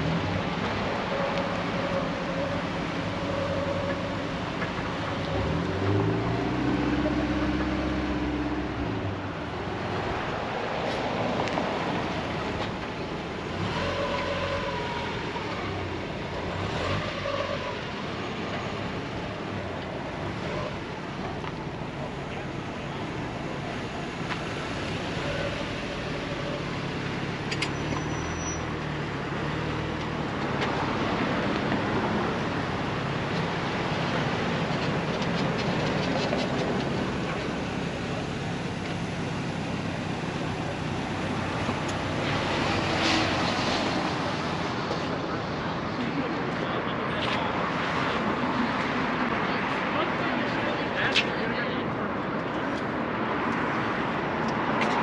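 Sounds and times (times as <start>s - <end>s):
car engines humming: 0.0s - 55.0s.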